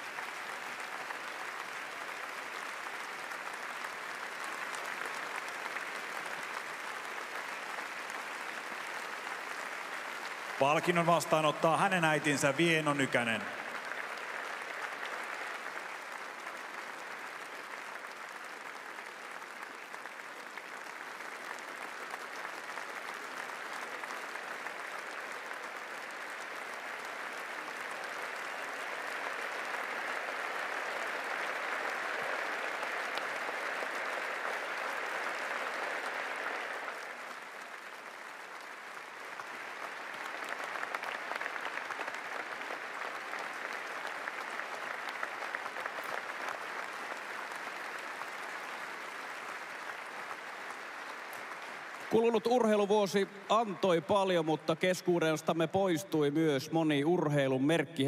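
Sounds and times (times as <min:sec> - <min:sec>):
large crowd applauding: 0:00.0 - 0:58.0.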